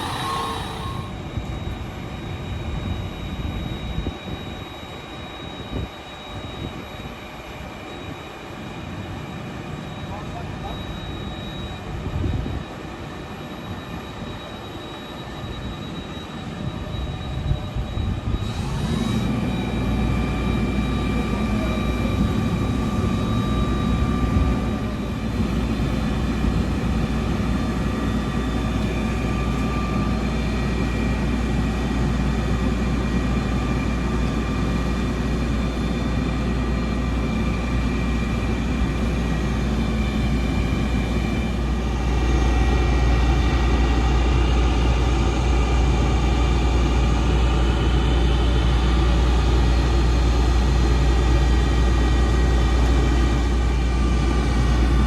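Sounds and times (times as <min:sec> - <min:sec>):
fire truck engine whining: 0:00.0 - 0:55.0.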